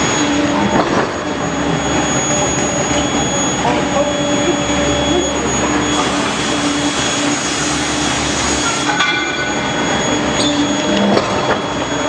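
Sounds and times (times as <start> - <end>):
furnace machine noise: 0.0 - 12.0
high-pitched whine: 0.0 - 12.0.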